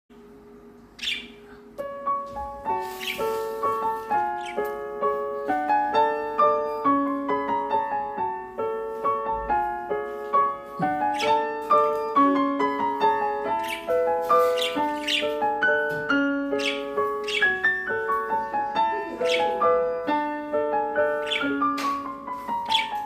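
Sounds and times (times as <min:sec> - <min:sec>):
piano music: 0:00.1 - 0:23.0
lovebirds chirping: 0:00.7 - 0:23.0.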